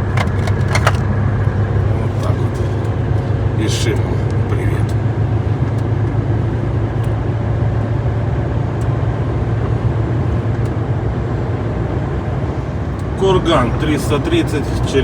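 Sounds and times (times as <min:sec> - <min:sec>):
road and wind noise: 0:00.0 - 0:15.0
truck engine drone: 0:00.0 - 0:15.0.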